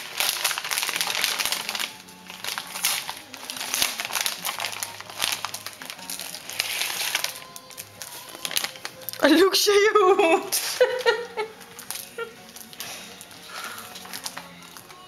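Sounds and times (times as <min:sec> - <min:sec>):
wrapping paper crinkling: 0:00.0 - 0:09.4, 0:10.5 - 0:15.0.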